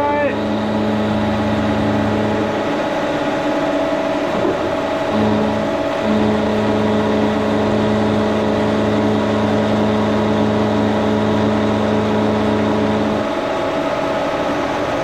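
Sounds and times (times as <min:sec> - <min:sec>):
milling machine humming: 0:00.0 - 0:15.0.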